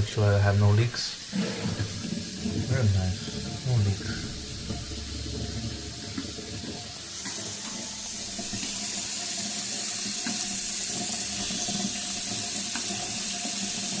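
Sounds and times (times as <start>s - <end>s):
faucet running into sink: 0.0s - 14.0s.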